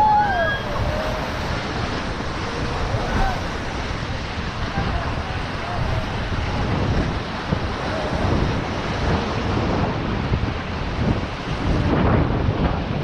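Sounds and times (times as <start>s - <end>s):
whitewater rapids rushing: 0.0s - 13.0s
wind buffeting microphone: 0.0s - 13.0s.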